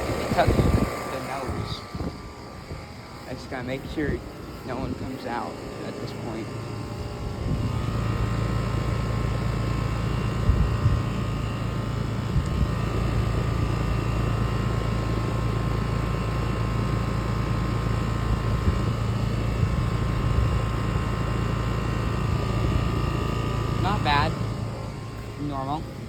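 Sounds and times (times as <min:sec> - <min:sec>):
air conditioner unit running: 0:00.0 - 0:26.0.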